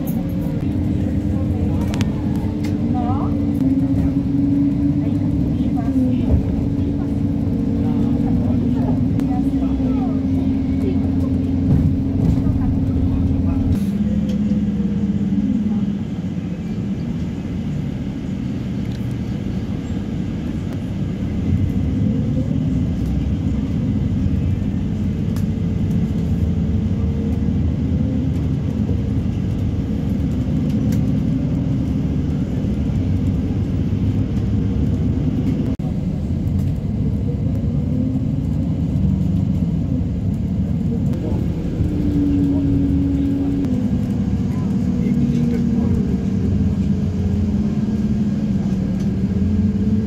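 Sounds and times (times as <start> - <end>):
bus engine and road rumble: 0.0 - 50.0.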